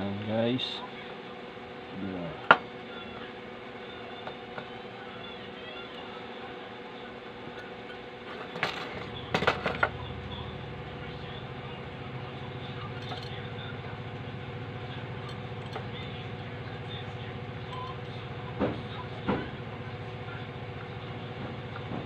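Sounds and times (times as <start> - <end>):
low pulsing mechanical drone: 1.6 - 22.0.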